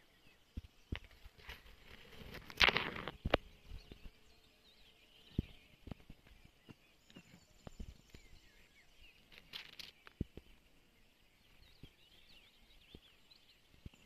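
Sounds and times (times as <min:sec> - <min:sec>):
faint bird chirping: 0:00.0 - 0:14.0
grass rustling near microphone: 0:00.0 - 0:14.0.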